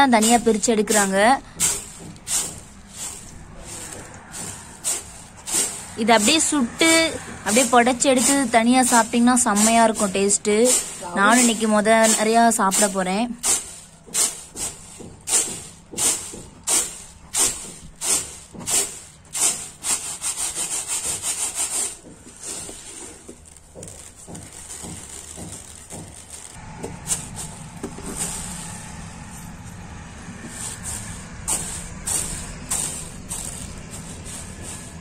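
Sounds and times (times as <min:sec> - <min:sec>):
grains swishing across plastic tray: 0:00.0 - 0:28.9, 0:30.5 - 0:35.0
hand rubbing and shuffling grains: 0:00.0 - 0:35.0.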